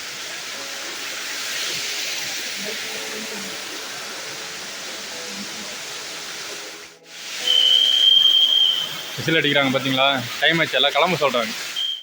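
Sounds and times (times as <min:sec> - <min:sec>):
waterfall rushing water hiss: 0:00.0 - 0:12.0.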